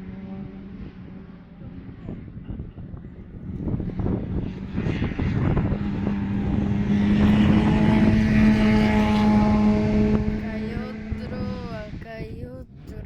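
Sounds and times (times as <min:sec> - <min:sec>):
racing car engine approaching: 0:00.0 - 0:13.0.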